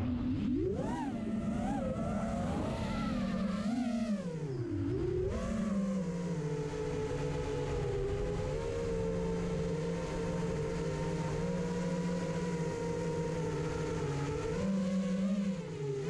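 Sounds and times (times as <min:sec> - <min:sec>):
quadcopter motors humming: 0:00.0 - 0:16.0.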